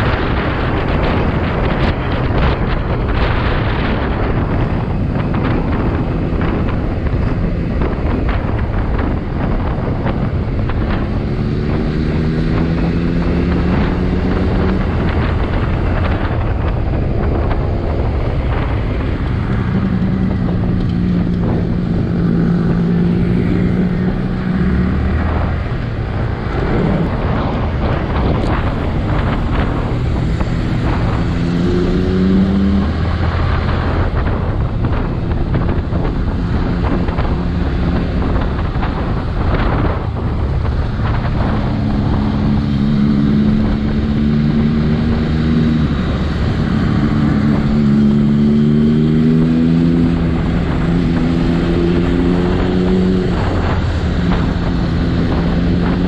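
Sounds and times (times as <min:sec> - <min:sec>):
motorcycle engine accelerating: 0:00.0 - 0:56.0
wind buffeting microphone: 0:00.0 - 0:56.0.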